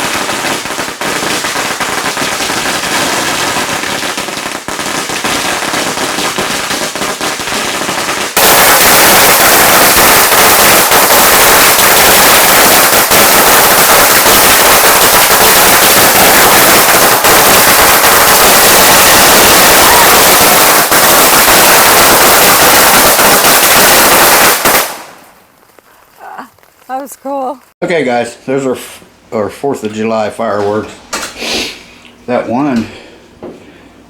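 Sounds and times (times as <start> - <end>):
fireworks crackling: 0.0 - 28.8.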